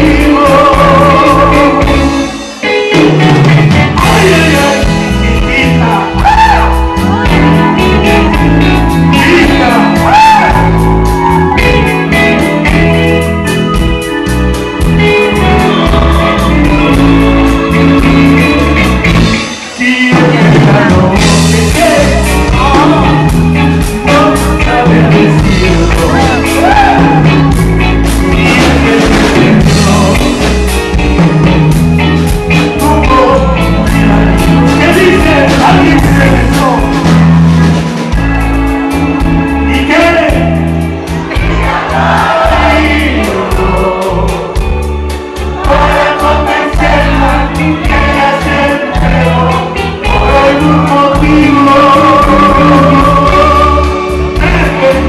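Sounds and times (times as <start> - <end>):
male lead vocal: 0.0 - 13.3, 14.2 - 31.6, 32.5 - 37.8, 39.1 - 55.0
live rock band playing: 0.0 - 55.0.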